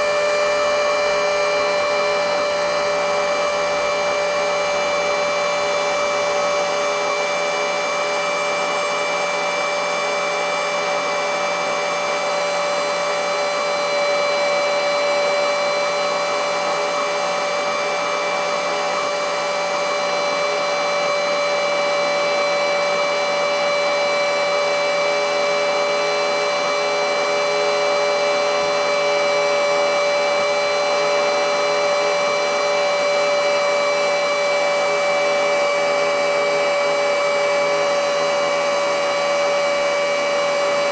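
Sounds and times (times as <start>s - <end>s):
handheld vacuum cleaner whine: 0.0s - 40.9s.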